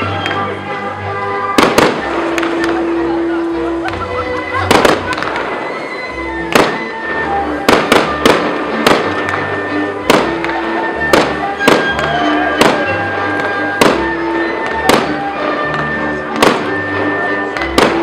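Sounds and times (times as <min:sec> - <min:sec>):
music with held notes: 0:00.0 - 0:18.0
fireworks bangs: 0:01.4 - 0:03.2, 0:03.8 - 0:18.0.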